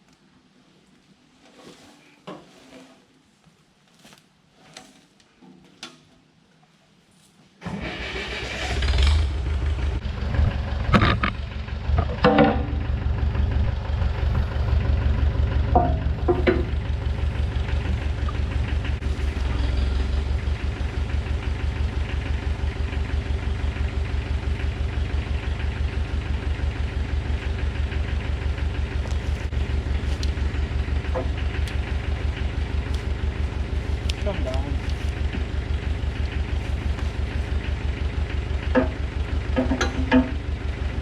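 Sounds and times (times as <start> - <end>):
heavy equipment engine idling: 7.9 - 41.0.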